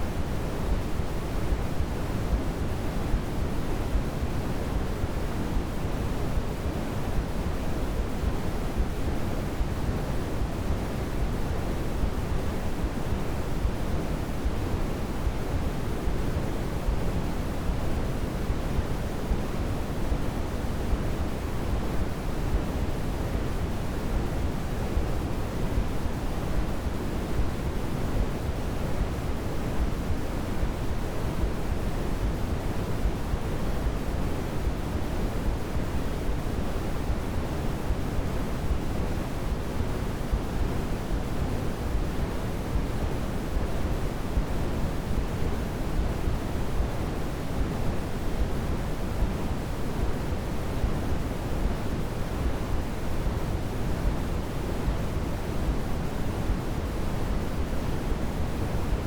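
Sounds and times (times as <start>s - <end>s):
deep steady white noise: 0.0s - 59.0s.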